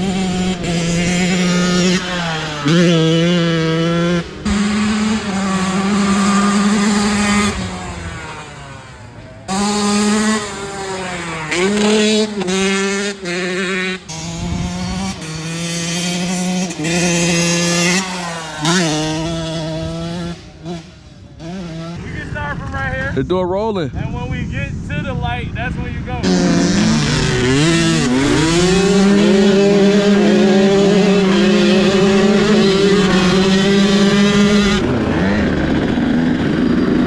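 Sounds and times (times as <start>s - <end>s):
dirt bike engine revving: 0.0s - 23.3s, 25.6s - 37.0s.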